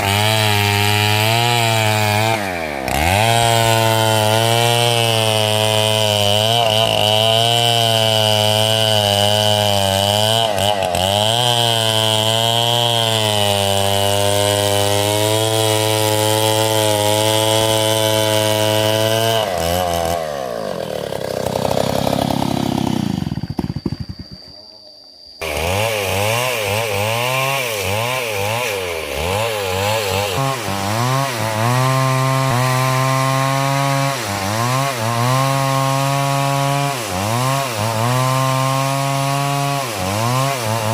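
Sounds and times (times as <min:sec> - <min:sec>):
chainsaw cutting wood: 0:00.0 - 0:24.5, 0:25.4 - 0:40.9.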